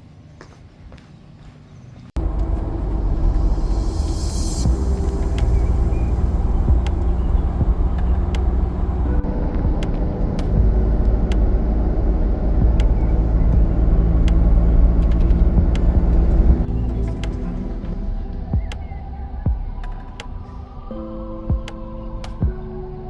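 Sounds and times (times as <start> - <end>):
vehicle engine rumble: 2.0 - 22.7.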